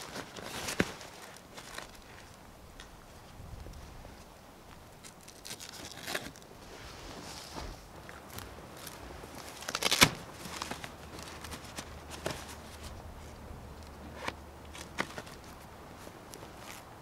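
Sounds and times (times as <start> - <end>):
tent fabric rustling: 0.0 - 2.4, 5.0 - 17.0.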